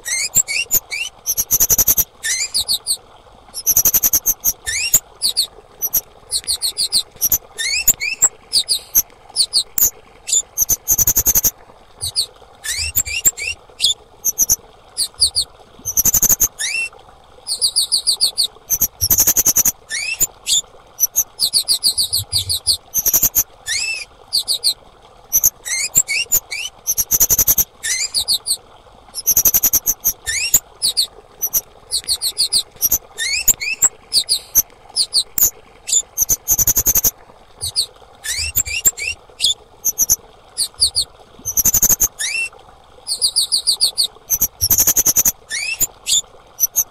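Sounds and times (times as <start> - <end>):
bird high thin chirps and trills: 0.0 - 3.0, 3.6 - 16.9, 17.5 - 28.6, 29.2 - 42.5, 43.1 - 46.9.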